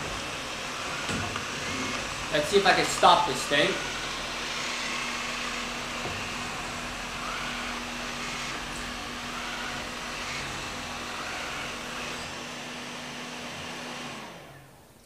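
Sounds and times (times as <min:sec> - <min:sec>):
robot vacuum fan whirring: 0:00.0 - 0:15.0.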